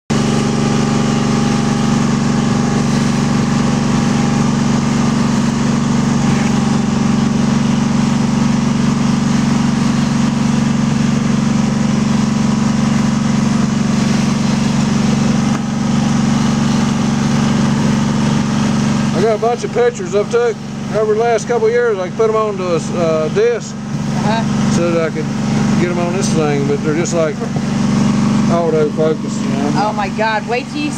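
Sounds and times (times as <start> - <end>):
bee vacuum humming: 0.1 - 30.9.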